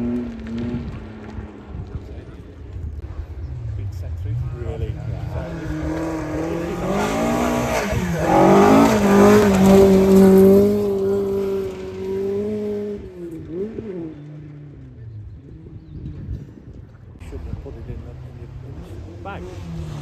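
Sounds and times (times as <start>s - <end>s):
rally car engine at speed: 0.0s - 20.0s.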